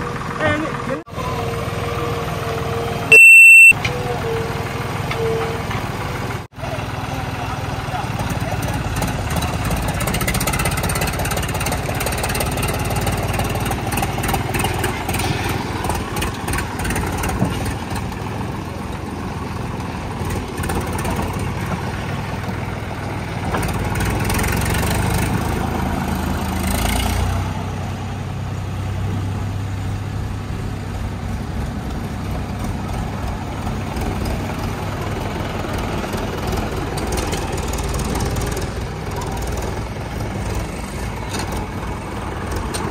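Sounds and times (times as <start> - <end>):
backhoe loader engine running: 0.0 - 42.9
diesel tractor engines running: 0.0 - 42.9.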